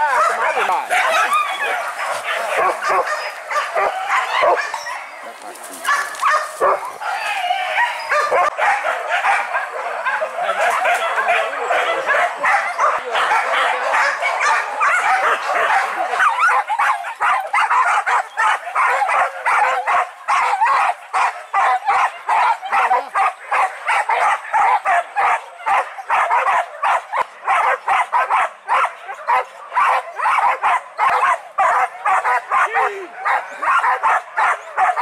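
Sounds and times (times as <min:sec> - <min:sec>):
dogs barking rapidly: 0:00.0 - 0:35.0.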